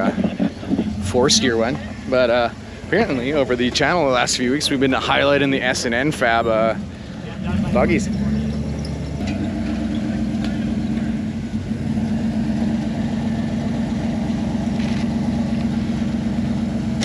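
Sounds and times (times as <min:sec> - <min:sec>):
buggy engine running at low revs: 0:00.0 - 0:17.0.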